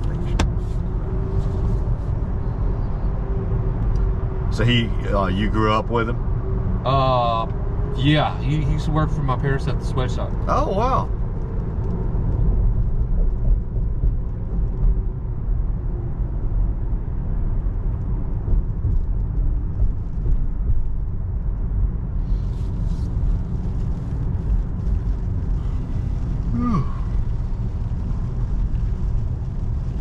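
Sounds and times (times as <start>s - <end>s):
road and tyre rumble in car: 0.0s - 30.0s.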